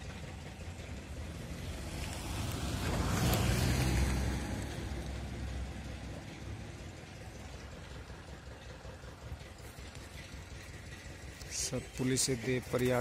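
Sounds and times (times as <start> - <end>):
motorcycle engine: 0.0 - 13.0.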